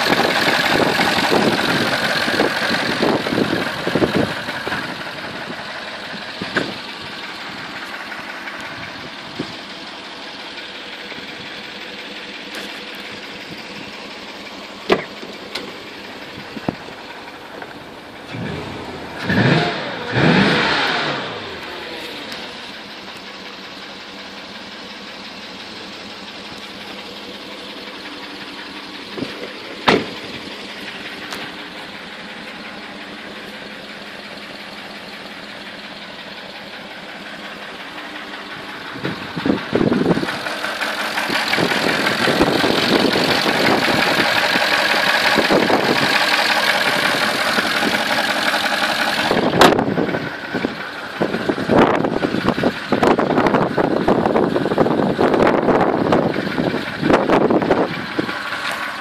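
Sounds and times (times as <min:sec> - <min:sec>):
car engine idling with knocking: 0:00.0 - 0:59.0.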